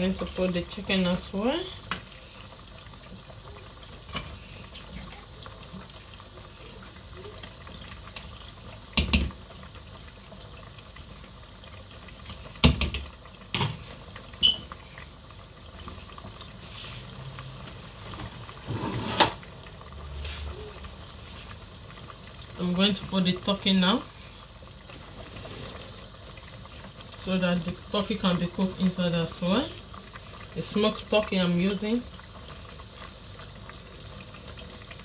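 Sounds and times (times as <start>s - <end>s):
stew boiling with bubbling hiss: 0.0s - 35.0s.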